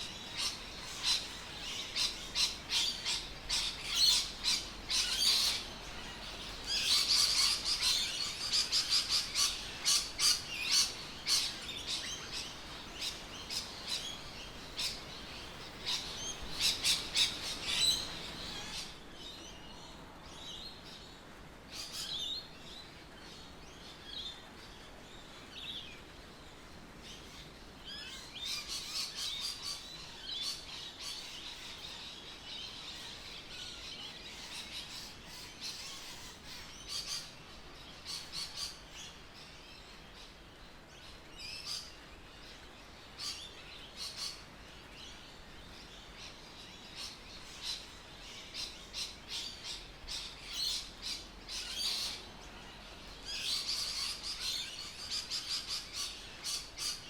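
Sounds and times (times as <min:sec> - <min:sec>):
birds chirping: 0:00.0 - 0:20.8, 0:26.9 - 0:57.0.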